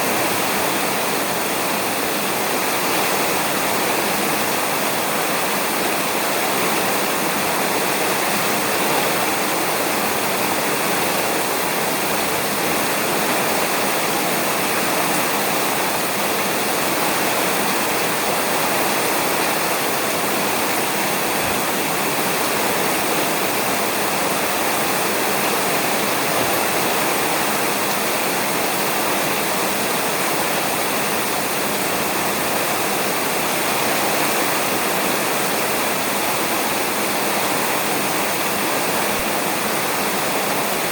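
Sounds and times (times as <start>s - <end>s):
rain falling on a roof: 0.0s - 40.9s.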